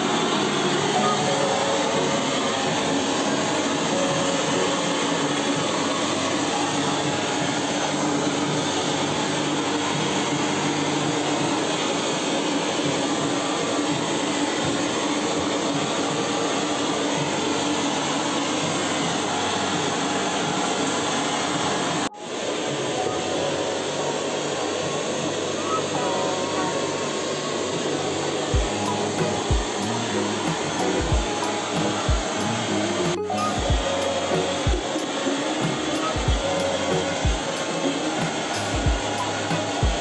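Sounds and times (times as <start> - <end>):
blowtorch hissing: 0.0 - 40.0.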